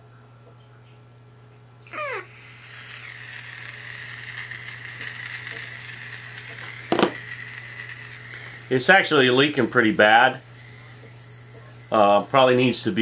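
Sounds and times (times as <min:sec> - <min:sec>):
gas hissing from magazine: 0:01.8 - 0:13.0.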